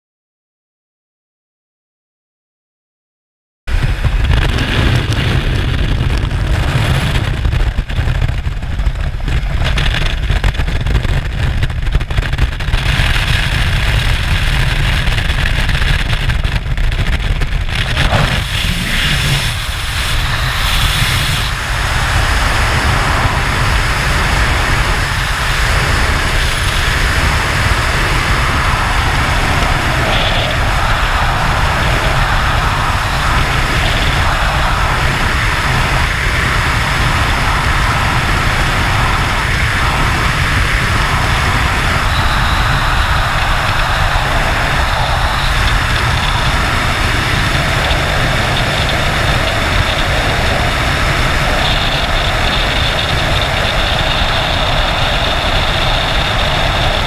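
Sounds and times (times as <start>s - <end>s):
plane engine: 3.7s - 57.0s
wind blasting on microphone: 3.7s - 57.0s.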